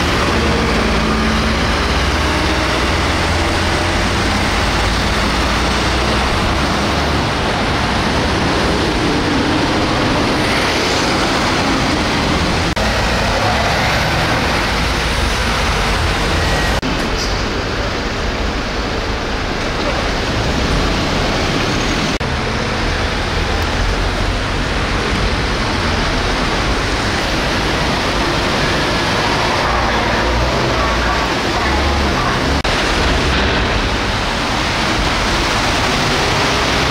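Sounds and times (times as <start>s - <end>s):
city street traffic: 0.0s - 36.9s.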